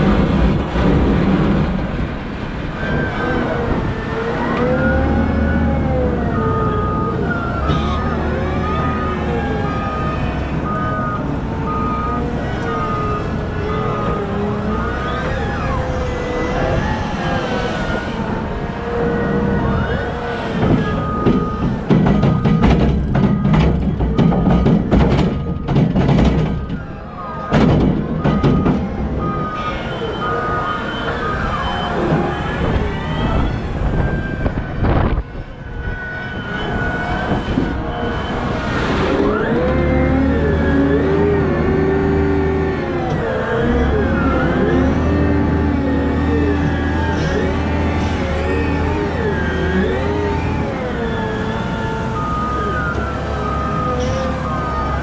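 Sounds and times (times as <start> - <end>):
wheel loader diesel engine rumbling: 0.0 - 55.0
reversing alarm beeping: 4.3 - 18.3, 19.0 - 55.0.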